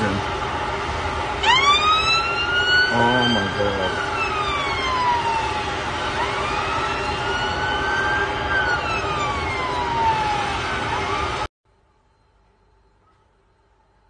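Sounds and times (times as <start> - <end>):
emergency siren wailing: 0.0 - 11.5
city noise: 0.0 - 14.0.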